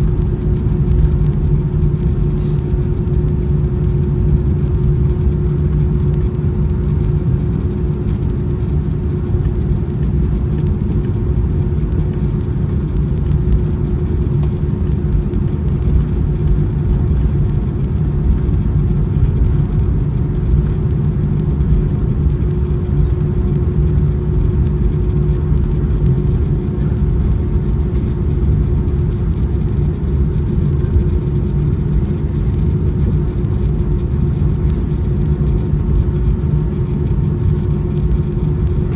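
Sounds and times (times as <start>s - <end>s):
jet engines idling rumble: 0.0s - 38.9s
steady hum: 0.0s - 38.9s.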